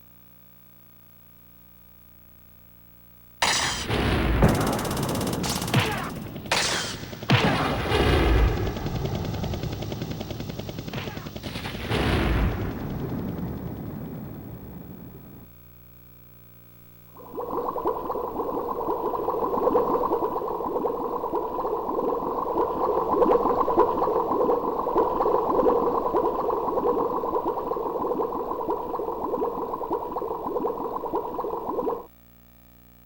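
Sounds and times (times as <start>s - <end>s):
dense crackling sound effect: 3.4s - 15.6s, 16.9s - 32.1s.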